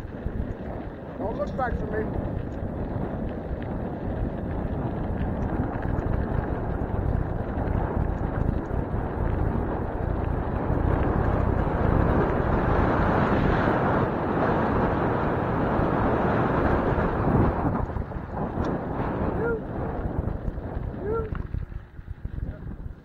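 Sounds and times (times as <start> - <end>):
bicycle tyres rumbling on dirt: 0.0 - 23.0
wind rushing over microphone: 0.0 - 23.0.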